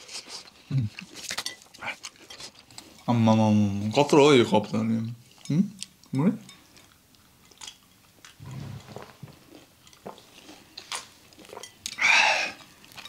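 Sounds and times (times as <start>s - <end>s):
chewing and crunching fried chicken: 0.0s - 3.4s, 5.2s - 13.0s.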